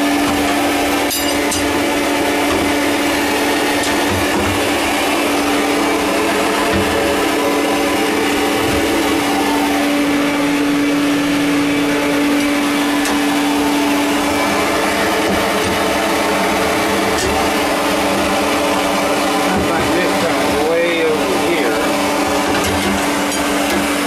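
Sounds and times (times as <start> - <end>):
vacuum running: 0.0 - 24.0.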